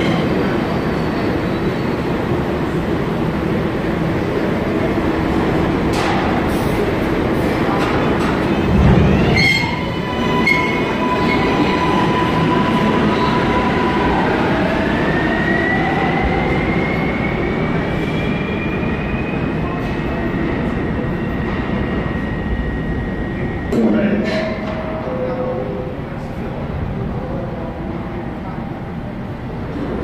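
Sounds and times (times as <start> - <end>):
subway traction motor whine: 0.0 - 30.0.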